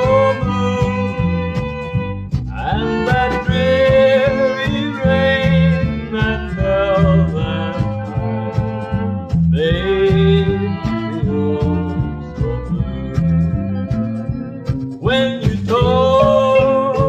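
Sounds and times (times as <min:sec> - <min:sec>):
country band instrumental: 0:00.0 - 0:17.0.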